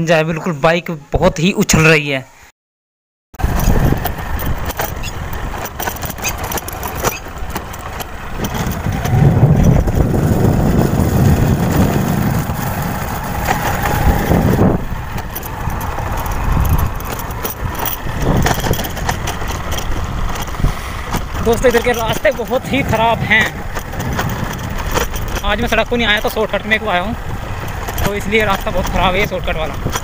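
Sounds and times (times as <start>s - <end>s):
knocks and rattles of bike: 3.4s - 30.0s
motorcycle engine and road rumble: 3.4s - 30.0s.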